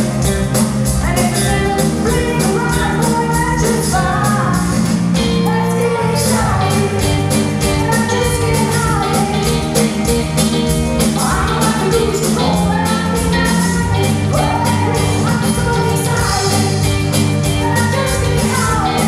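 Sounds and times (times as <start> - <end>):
drums beating: 0.0 - 5.5, 6.4 - 19.0
person singing: 0.0 - 10.2, 11.0 - 19.0
live rock band playing: 0.0 - 19.0.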